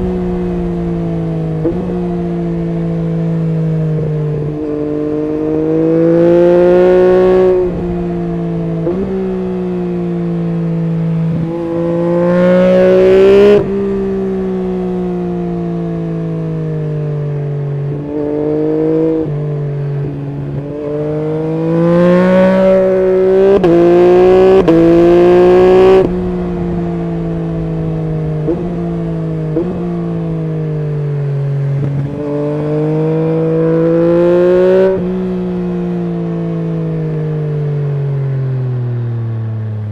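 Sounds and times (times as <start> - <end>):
motorcycle engine revving: 0.0 - 38.2.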